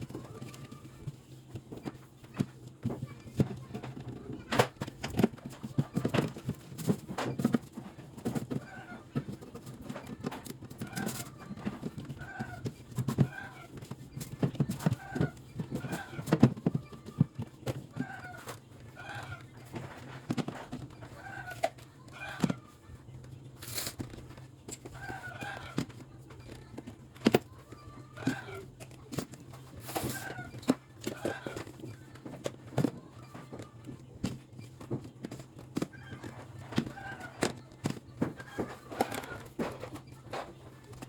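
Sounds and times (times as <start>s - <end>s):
chickens clucking: 1.9s - 41.0s.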